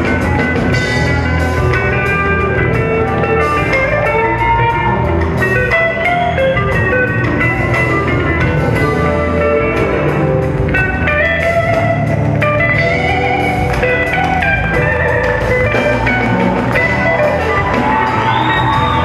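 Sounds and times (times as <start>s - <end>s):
bass guitar: 0.0s - 19.0s
drum kit: 0.0s - 19.0s
electric guitar lead: 0.0s - 19.0s.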